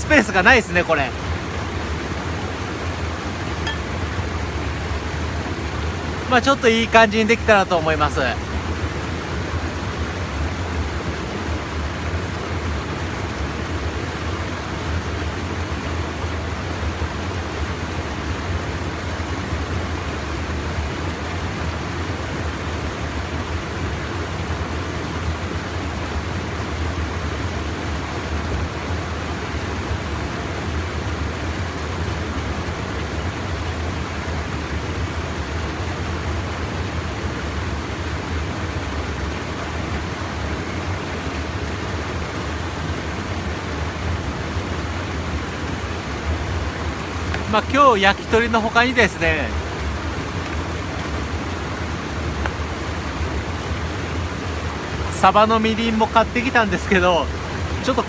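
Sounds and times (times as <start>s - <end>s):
stream water pouring over dam: 0.0s - 58.0s.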